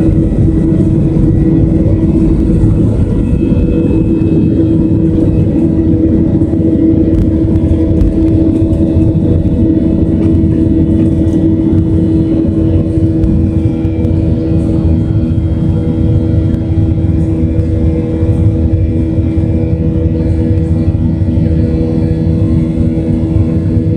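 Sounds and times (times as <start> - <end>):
jet engines running: 0.0 - 23.9.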